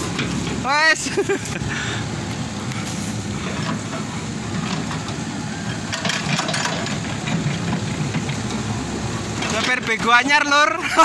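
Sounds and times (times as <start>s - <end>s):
excavator running: 0.0s - 11.0s.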